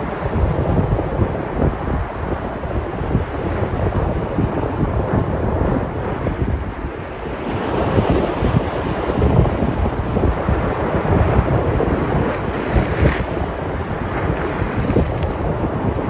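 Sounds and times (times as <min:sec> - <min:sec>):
waves breaking on shore: 0:00.0 - 0:16.0
wind buffeting microphone: 0:00.0 - 0:16.0.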